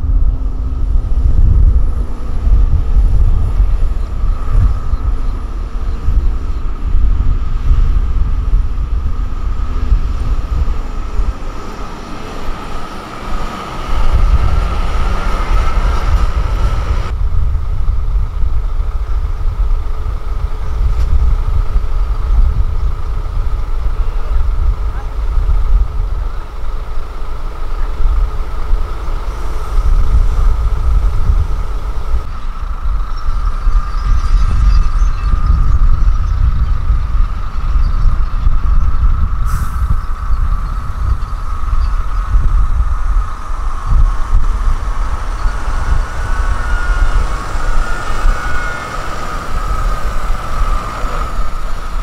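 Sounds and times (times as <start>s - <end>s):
diesel trucks rumbling: 0.0s - 52.0s.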